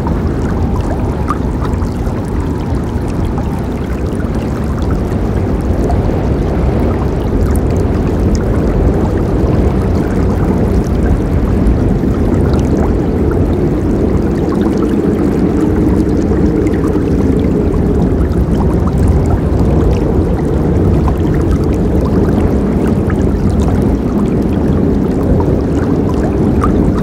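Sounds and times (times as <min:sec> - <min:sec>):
small water splashes: 0:00.0 - 0:27.0.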